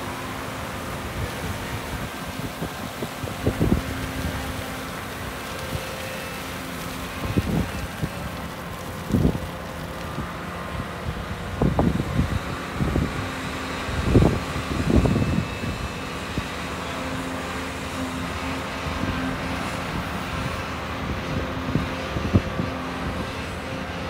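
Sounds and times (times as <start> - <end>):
excavator engine and hydraulics hum: 0.0 - 24.0.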